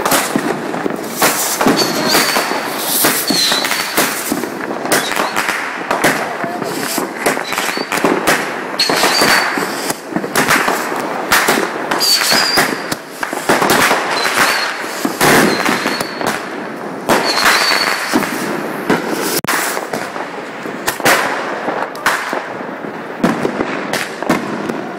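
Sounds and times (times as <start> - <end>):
high firework whistles: 0.0 - 20.0
crackling star bursts: 0.0 - 24.2
firework pops and bangs: 0.0 - 24.9.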